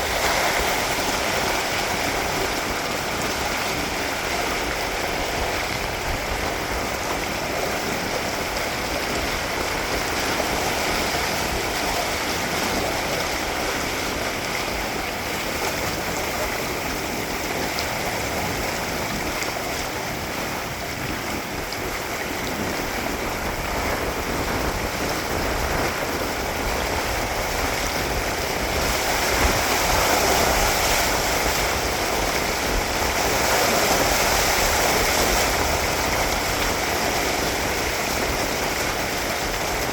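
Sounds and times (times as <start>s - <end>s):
water rushing along hulls: 0.0s - 39.9s
wind buffeting microphone: 0.0s - 39.9s.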